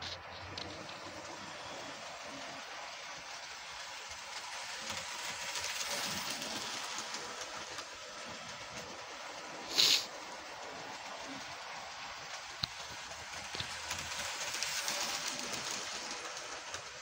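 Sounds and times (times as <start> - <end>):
model train rolling on track: 0.0 - 17.0.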